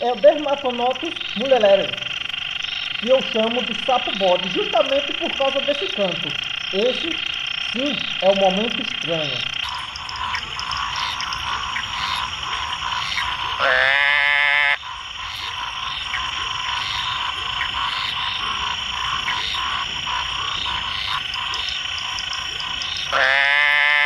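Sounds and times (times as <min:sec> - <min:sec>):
frog bleating calls: 0:00.0 - 0:24.0.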